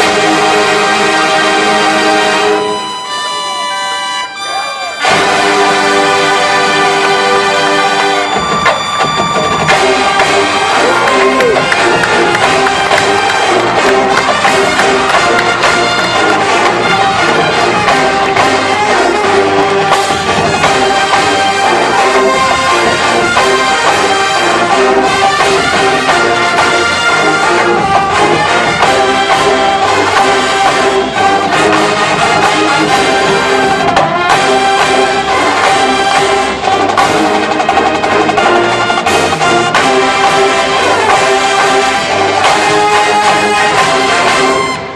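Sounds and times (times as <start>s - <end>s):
brass ensemble music: 0.0s - 44.9s.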